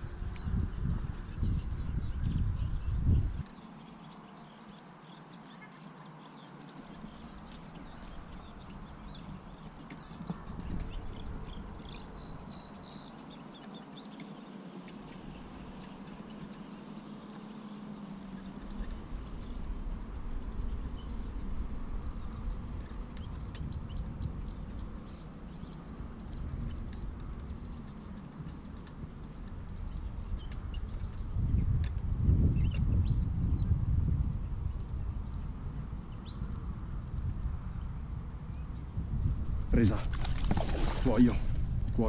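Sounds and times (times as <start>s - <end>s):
wind rumble on microphone: 0.0s - 42.0s
small birds chirping: 0.1s - 42.0s.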